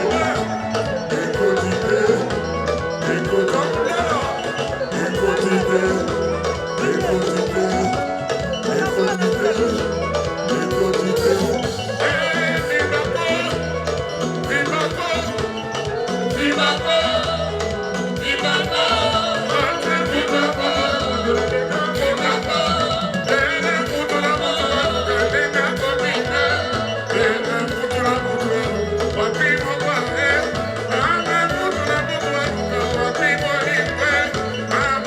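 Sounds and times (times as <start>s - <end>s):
rumba band music: 0.0s - 35.0s
voices singing: 0.0s - 35.0s.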